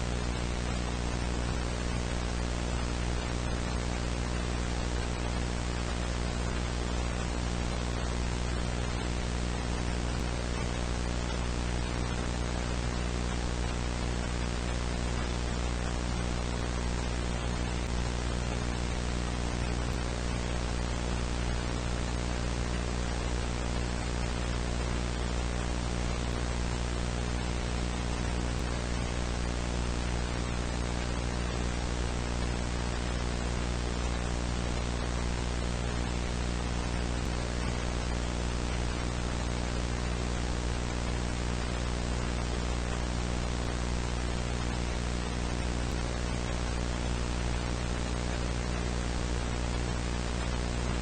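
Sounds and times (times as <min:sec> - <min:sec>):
hissing static: 0:00.0 - 0:51.0
low electrical hum: 0:00.0 - 0:51.0.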